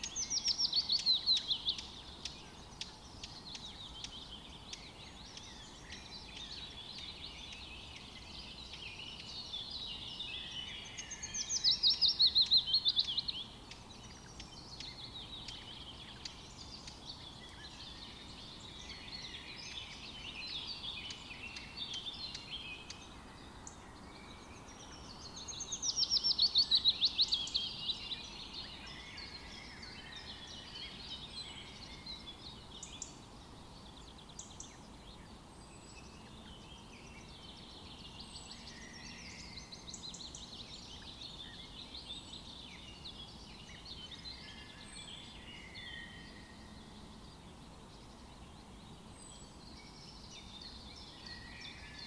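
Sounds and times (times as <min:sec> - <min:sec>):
faint steady hiss: 0:00.0 - 0:52.0
forest birds singing: 0:00.0 - 0:52.0.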